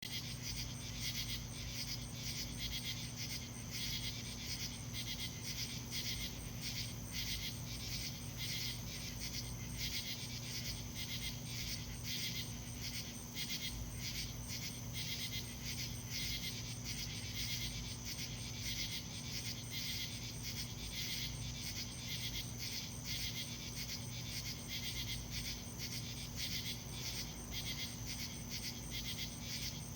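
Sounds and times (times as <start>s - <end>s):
raspy pulsing insect calls: 0.1s - 29.9s.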